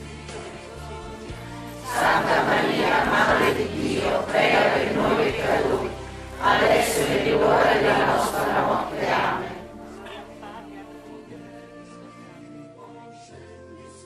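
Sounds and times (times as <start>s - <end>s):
group singing a hymn: 0.0s - 14.0s.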